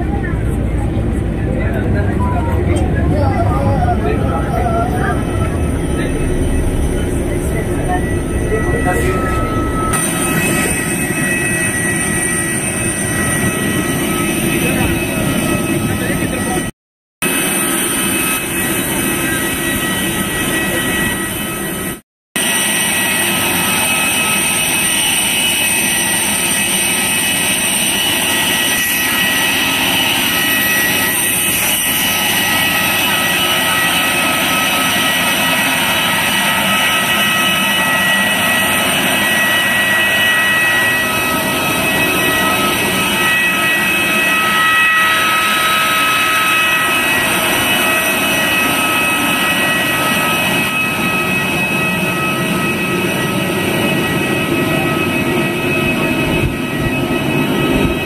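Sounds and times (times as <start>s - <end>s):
jet turbine rush and whine: 0.0s - 58.0s.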